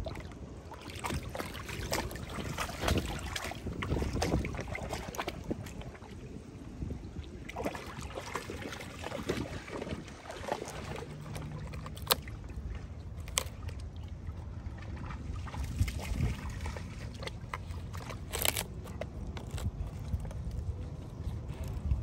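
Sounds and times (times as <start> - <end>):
shallow water lapping: 0.0 - 22.0.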